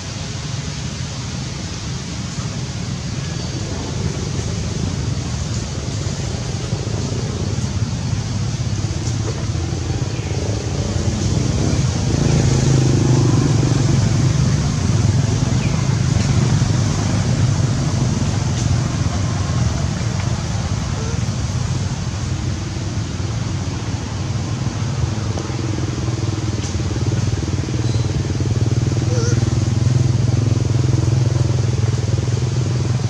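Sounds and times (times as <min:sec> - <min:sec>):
low engine drone: 0:00.0 - 0:33.0
noise hiss: 0:00.0 - 0:33.0.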